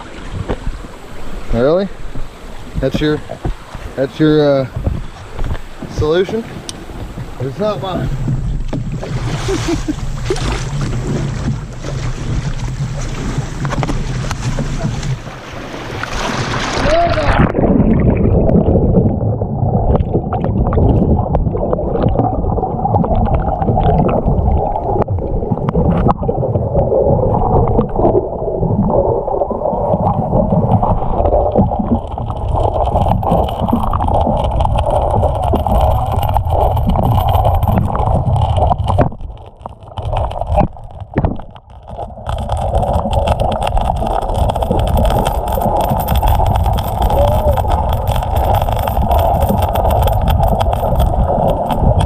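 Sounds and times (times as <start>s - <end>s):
floodwater rushing and gurgling: 0.0s - 52.0s.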